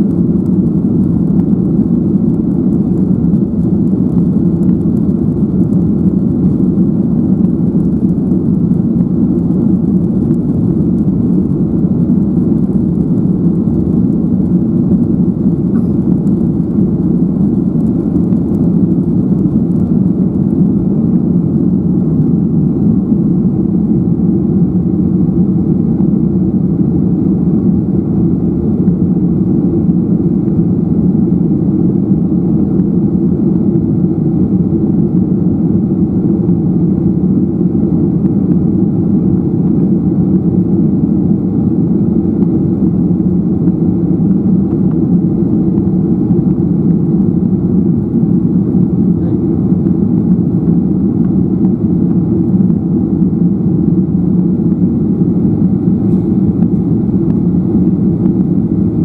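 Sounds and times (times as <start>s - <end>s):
jet engines from inside cabin: 0.0s - 59.0s.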